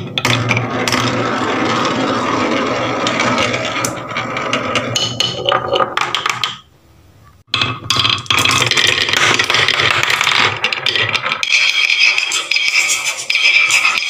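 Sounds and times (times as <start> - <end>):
balls rolling down wooden track: 0.0 - 6.7, 7.5 - 12.3.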